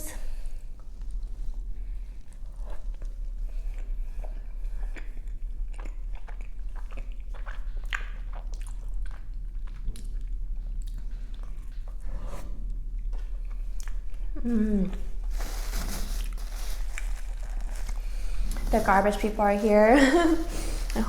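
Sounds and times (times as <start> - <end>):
person chewing food: 0.7 - 18.7, 20.2 - 21.0.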